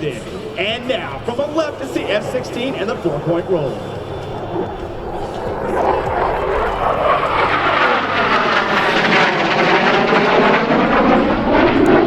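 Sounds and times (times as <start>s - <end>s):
jet engine roar flying past: 0.0s - 12.0s.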